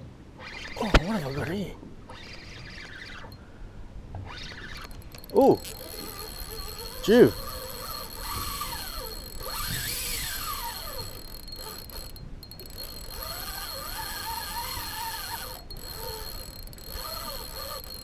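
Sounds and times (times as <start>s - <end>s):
fishing reel drag whining: 0.4s - 3.4s, 4.2s - 18.0s.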